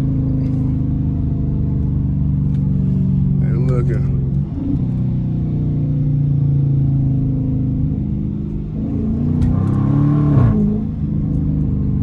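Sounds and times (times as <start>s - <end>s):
car exhaust droning: 0.0s - 12.0s.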